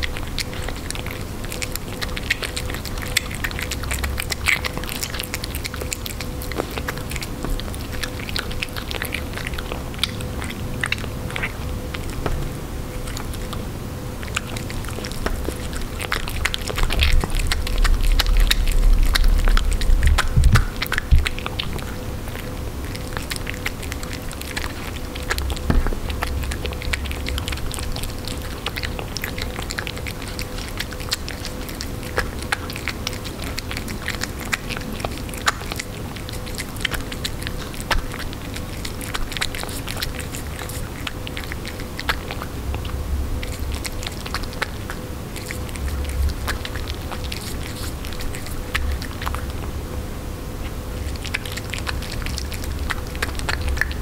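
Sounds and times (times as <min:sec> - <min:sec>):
cat eating wet food: 0:00.0 - 0:54.0.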